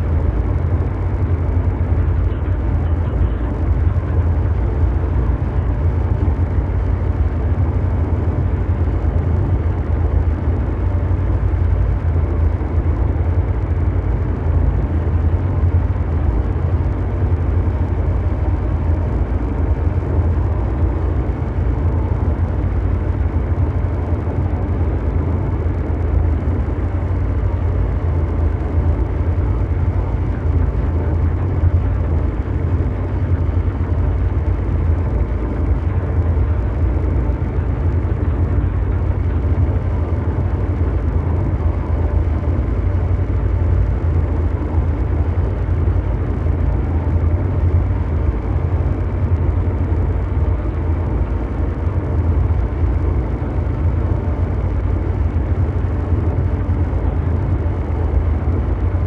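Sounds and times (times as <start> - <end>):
deep mechanical engine drone: 0.0 - 59.0.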